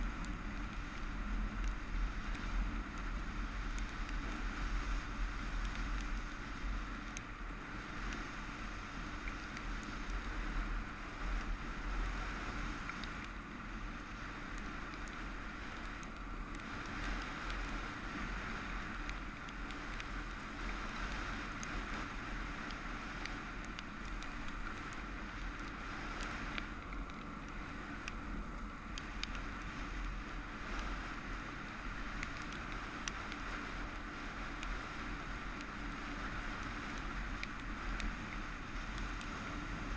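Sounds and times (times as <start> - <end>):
faint sharp ticks: 0.0 - 39.9.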